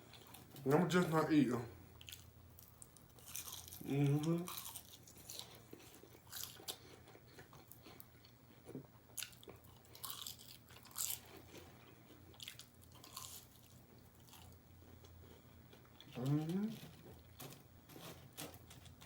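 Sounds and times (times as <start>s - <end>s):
person chewing crunchy food: 2.0s - 19.0s.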